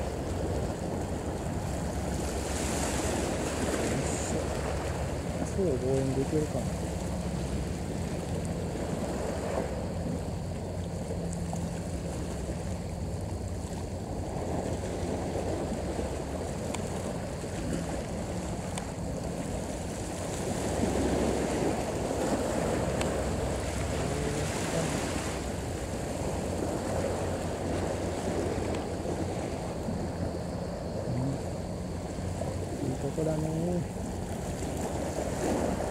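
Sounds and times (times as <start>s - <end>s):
sea water noise: 0.0s - 35.9s
wind: 0.0s - 35.9s.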